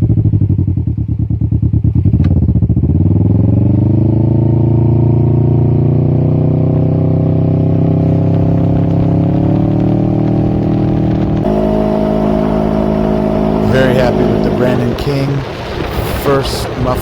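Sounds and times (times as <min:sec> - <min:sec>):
engine exhaust note: 0:00.0 - 0:17.0.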